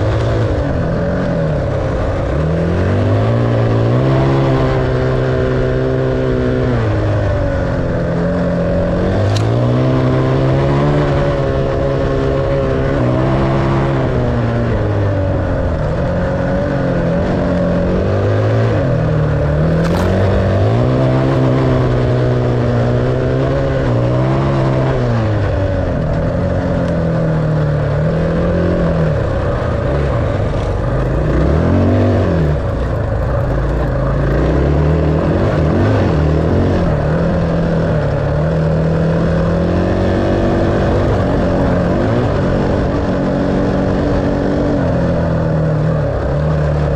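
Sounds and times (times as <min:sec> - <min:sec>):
dirt bike engine revving: 0:00.0 - 0:14.6, 0:16.2 - 0:25.2, 0:27.8 - 0:45.2.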